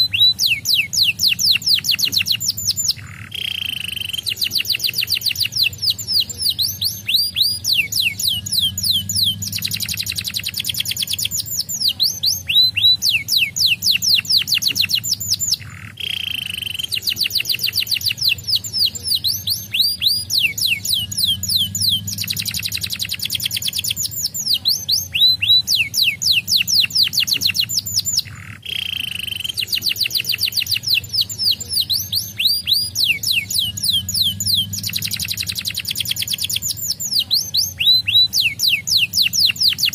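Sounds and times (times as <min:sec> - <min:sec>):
buzzy bird note: 0:00.0 - 0:39.9
canary singing trills: 0:00.0 - 0:39.9.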